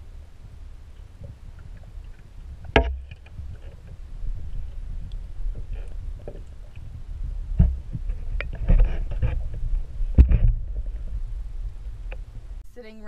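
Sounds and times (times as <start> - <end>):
muffled underwater rumble: 0.0 - 12.6.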